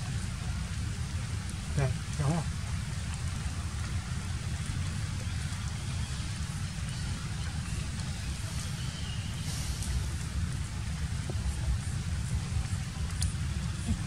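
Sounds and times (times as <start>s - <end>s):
even hiss: 0.0s - 14.0s.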